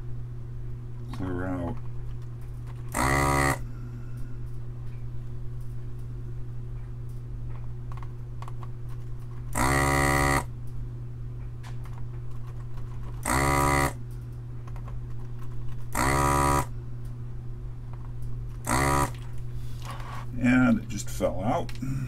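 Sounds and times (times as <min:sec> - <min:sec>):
vacuum pump buzzing: 0:01.0 - 0:05.8, 0:07.9 - 0:10.8, 0:11.6 - 0:22.0.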